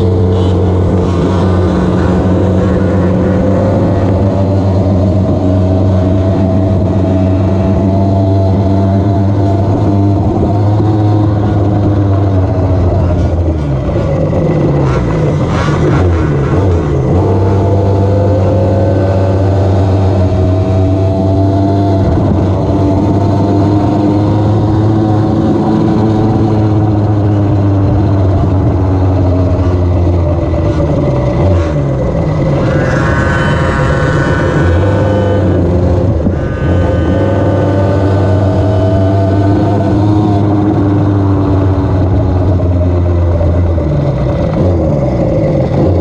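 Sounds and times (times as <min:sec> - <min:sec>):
high engine whine: 0:00.0 - 0:46.0.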